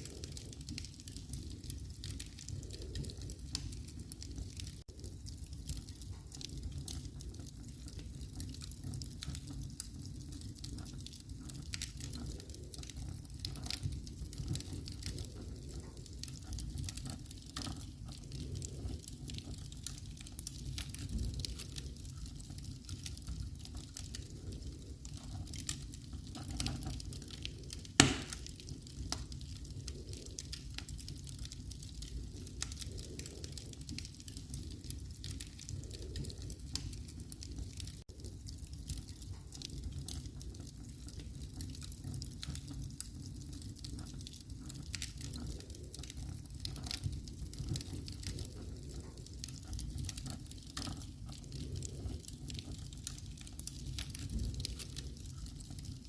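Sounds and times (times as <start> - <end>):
loud fire crack: 0.0 - 56.0
wood fire crackling: 0.0 - 56.0.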